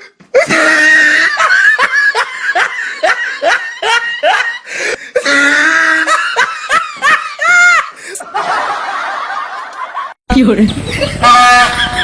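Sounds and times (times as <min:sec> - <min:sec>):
person laughing loudly: 0:00.4 - 0:09.4, 0:10.8 - 0:12.0.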